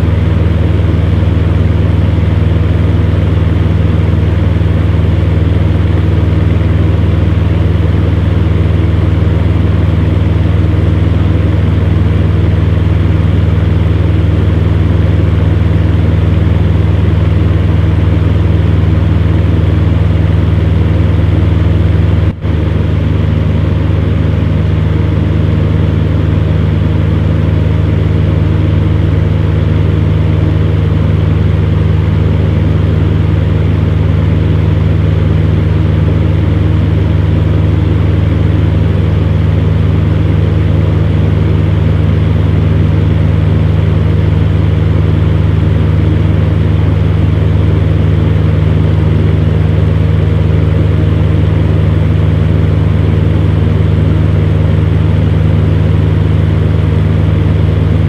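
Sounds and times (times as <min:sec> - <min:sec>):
electric fan heater running: 0:00.0 - 0:58.0.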